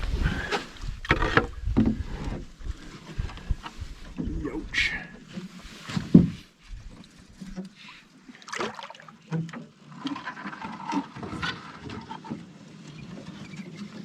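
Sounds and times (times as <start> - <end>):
canoe paddling water sounds: 0.0 - 14.0.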